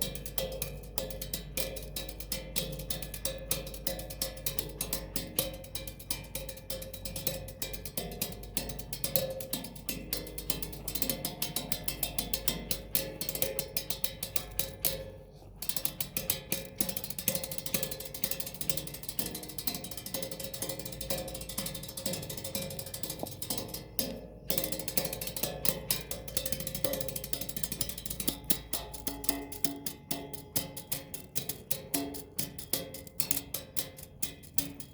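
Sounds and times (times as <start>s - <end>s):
percussion taps and strikes: 0.0s - 34.9s.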